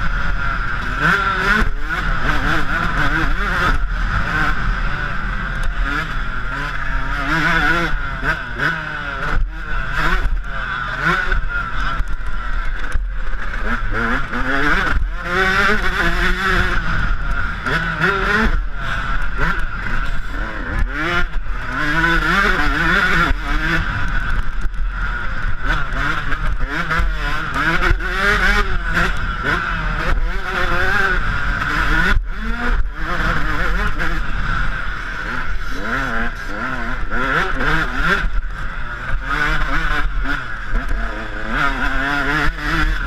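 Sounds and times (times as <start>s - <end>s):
two-stroke motorcycle engine revving: 0.0s - 43.0s.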